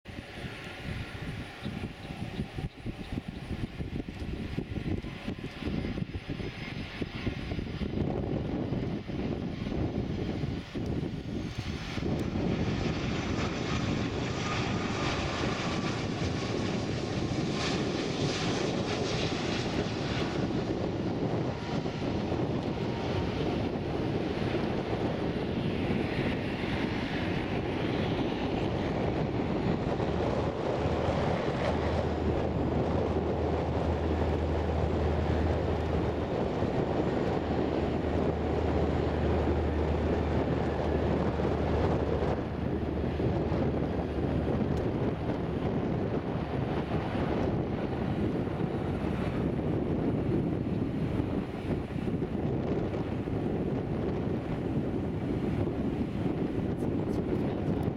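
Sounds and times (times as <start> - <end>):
jet engine whine: 0.0 - 57.9
steady low rumble: 0.0 - 57.9.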